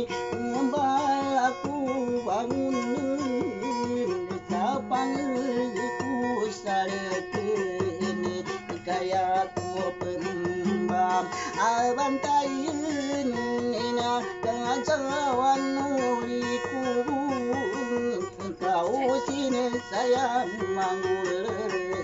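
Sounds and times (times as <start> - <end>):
acoustic guitar: 0.0 - 22.0
person singing with vibrato: 0.0 - 22.0.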